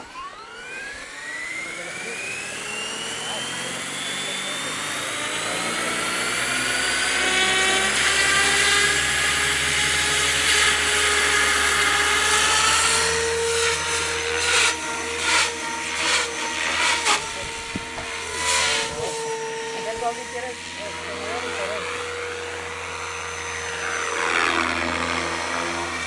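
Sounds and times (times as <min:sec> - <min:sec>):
model helicopter motor whine: 0:00.0 - 0:26.0.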